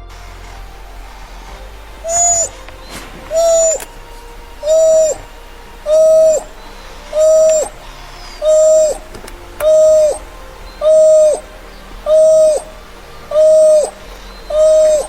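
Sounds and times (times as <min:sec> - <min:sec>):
bird hooting call: 0:00.0 - 0:15.0.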